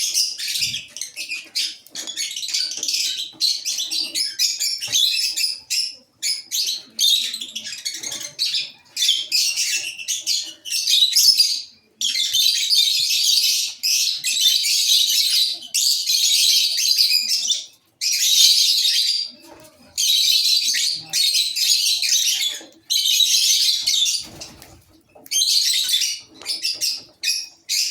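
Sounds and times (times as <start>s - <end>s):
lovebirds chattering: 0.0s - 27.9s.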